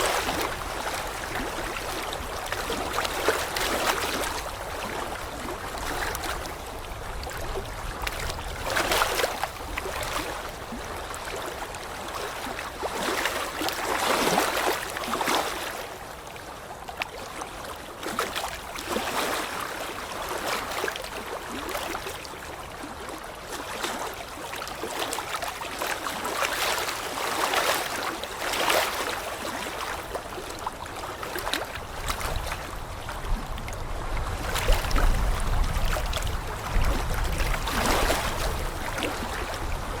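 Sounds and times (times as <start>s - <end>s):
running water rushing and splashing: 0.0s - 40.0s.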